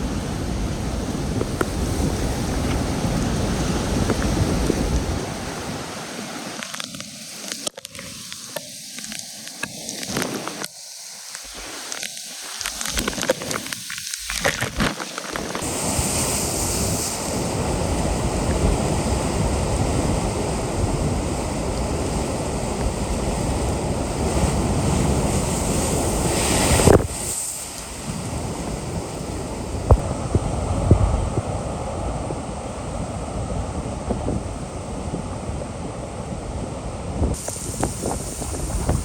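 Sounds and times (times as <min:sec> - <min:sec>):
wind blasting across microphone: 0:00.0 - 0:07.4, 0:11.4 - 0:39.0
heavy surf: 0:00.0 - 0:39.0.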